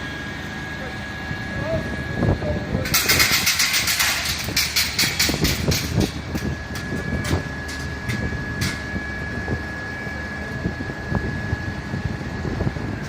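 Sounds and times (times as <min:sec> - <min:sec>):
fire truck engine running: 0:00.0 - 0:13.0
high whine: 0:00.0 - 0:13.0.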